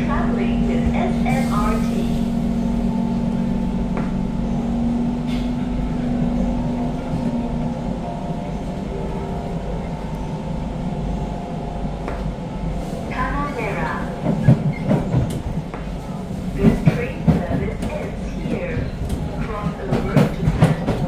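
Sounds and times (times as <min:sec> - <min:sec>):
traction equipment humming: 0:00.0 - 0:21.0
train wheels rumbling: 0:00.0 - 0:21.0.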